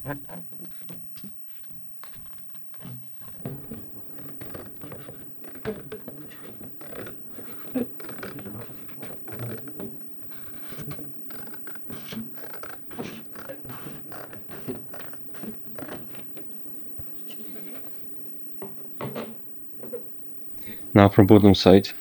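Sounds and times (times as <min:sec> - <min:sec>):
pencil scratching on paper: 0:00.0 - 0:18.6.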